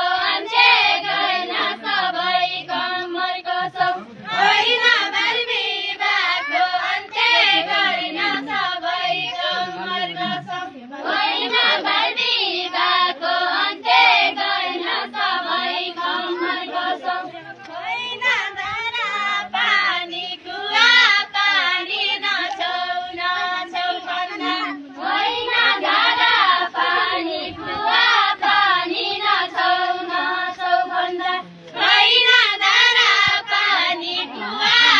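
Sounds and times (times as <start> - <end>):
women and girls singing unaccompanied: 0.0 - 34.9.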